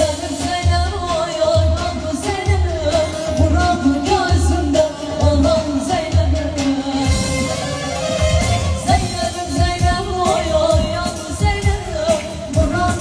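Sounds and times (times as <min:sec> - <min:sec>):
saz and band backing: 0:00.0 - 0:13.0
woman singing into a microphone: 0:00.0 - 0:13.0.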